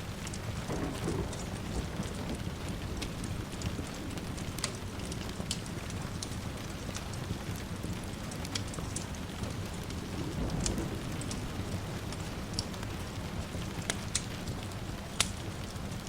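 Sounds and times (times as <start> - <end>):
steady rain: 0.0 - 16.0
distant thunder rumble: 0.4 - 8.3, 8.9 - 16.0.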